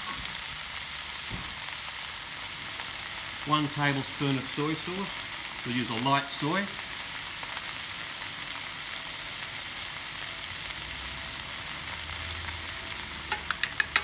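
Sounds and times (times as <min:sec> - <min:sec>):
vegetables sizzling in wok: 0:00.0 - 0:14.0.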